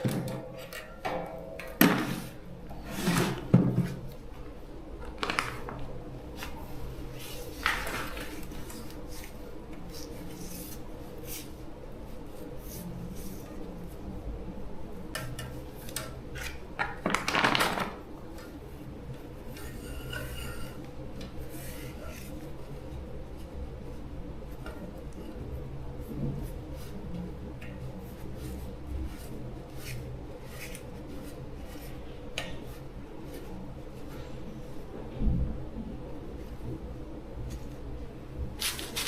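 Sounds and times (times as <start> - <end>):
steady low hum: 0.0 - 17.2, 17.9 - 39.0.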